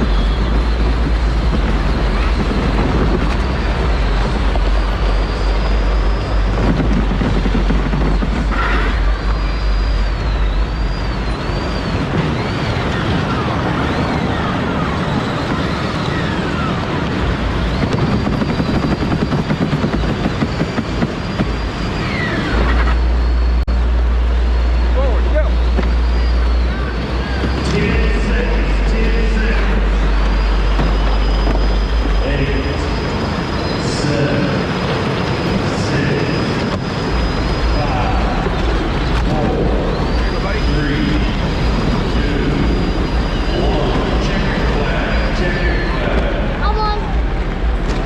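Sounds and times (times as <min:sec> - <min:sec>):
heavy low rumble: 0:00.0 - 0:48.0
running noise rush: 0:00.0 - 0:48.0.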